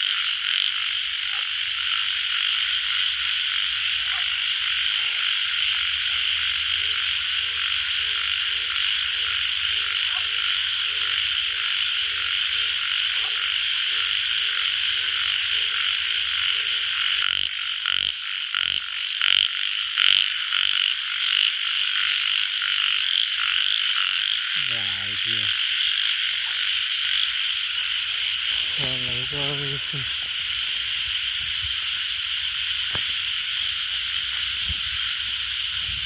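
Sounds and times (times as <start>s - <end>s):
close frog croaking: 0.0s - 36.0s
frog chorus: 0.0s - 36.0s.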